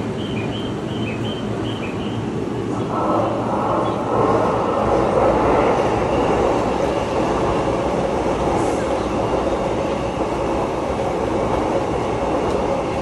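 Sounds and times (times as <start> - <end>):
electric train rumbling on rails: 0.0 - 13.0.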